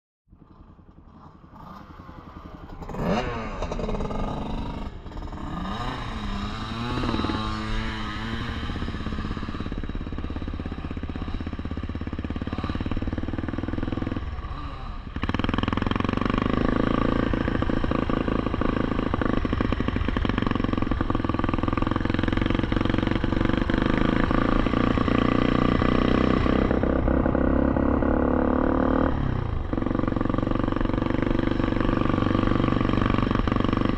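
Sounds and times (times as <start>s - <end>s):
off-road vehicle engine revving: 2.8s - 33.9s.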